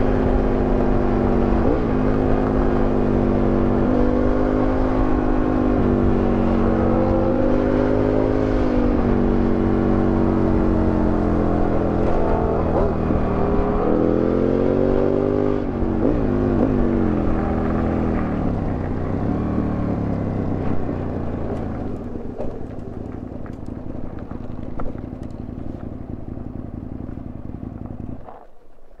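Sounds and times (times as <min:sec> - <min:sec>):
motorcycle engine revs falling: 0:05.0 - 0:28.6.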